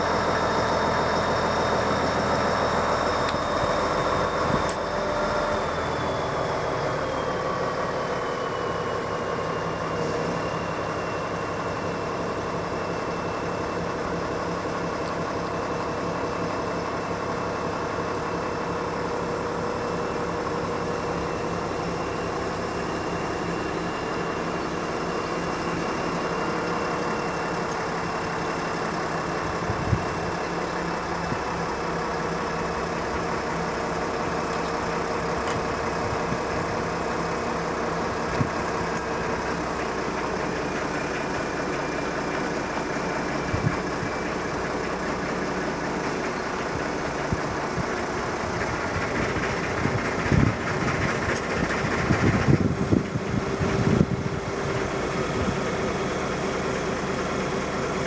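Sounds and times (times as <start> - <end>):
engine running with high whine: 0.0 - 58.0.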